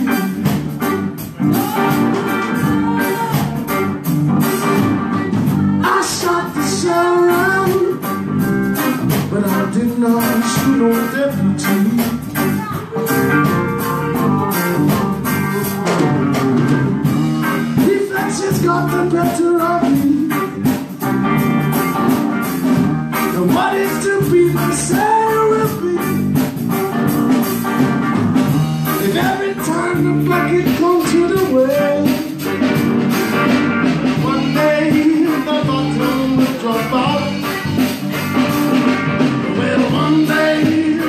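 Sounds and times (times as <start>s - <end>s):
live blues-rock band playing: 0.0s - 41.0s.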